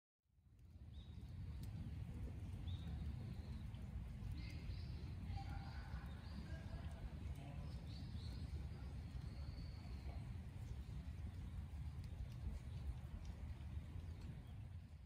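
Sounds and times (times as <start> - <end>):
low outdoor rumble: 0.4 - 15.0
birds calling faintly: 0.5 - 15.0.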